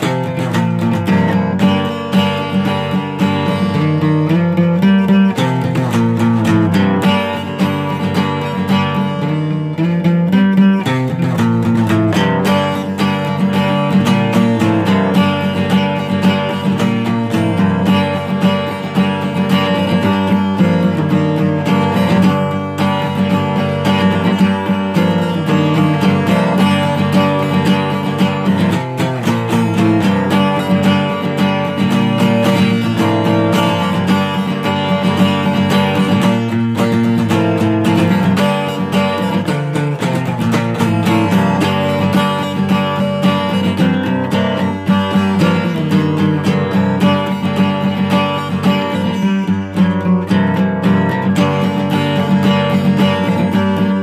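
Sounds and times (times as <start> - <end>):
guitar playing a riff: 0.0 - 54.0.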